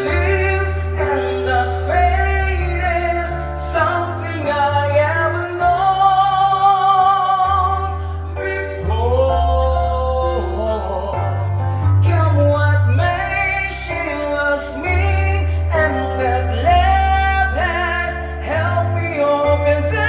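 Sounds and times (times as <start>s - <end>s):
backing track with bass line: 0.0s - 20.0s
person singing with vibrato: 0.0s - 20.0s.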